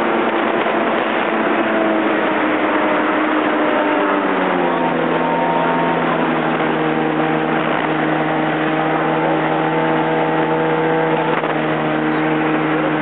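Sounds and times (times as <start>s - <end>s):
jet ski engine humming: 0.0s - 13.0s
water rushing: 0.0s - 13.0s.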